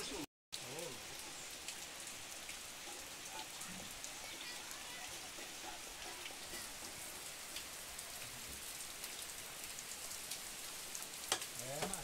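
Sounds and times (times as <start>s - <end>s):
heavy rain on trees: 0.0s - 12.0s.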